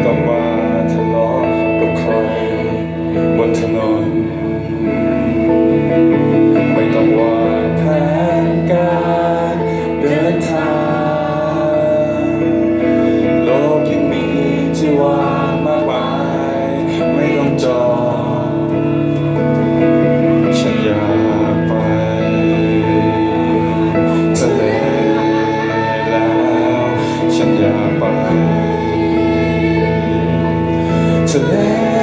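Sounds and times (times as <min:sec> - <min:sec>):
live rock band playing: 0:00.0 - 0:32.0
man singing: 0:00.0 - 0:32.0.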